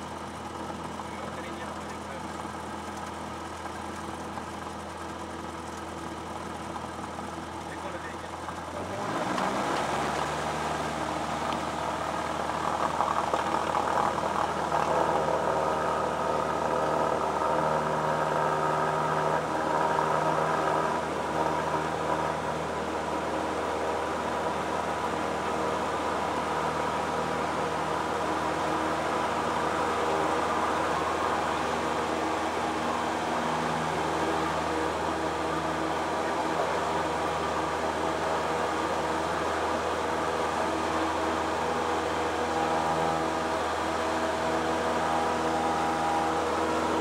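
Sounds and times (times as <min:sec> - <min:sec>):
light aircraft engine and propeller: 0:00.0 - 0:47.0.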